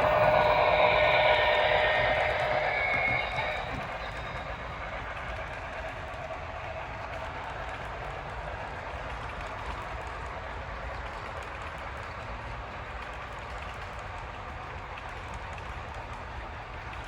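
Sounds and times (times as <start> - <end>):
model train wheels on rails: 0.0 - 17.0.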